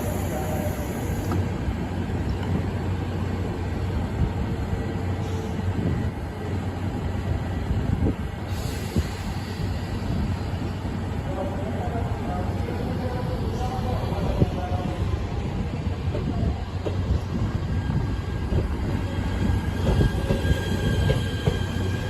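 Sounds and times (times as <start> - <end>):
train rumble and hum: 0.0 - 22.0.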